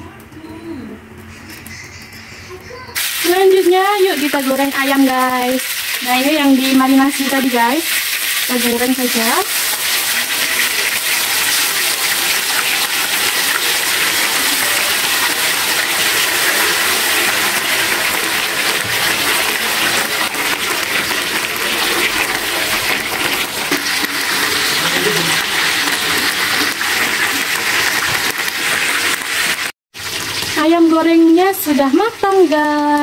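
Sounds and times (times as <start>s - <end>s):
chicken deep-frying in oil: 3.0s - 33.0s.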